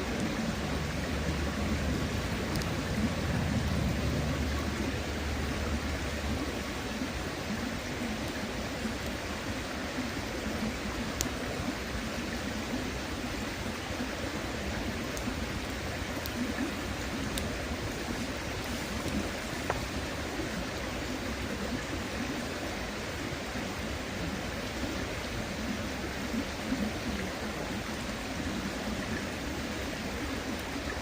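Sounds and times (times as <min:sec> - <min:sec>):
campfire crackling: 0:00.0 - 0:31.0
shallow river flowing: 0:00.0 - 0:31.0.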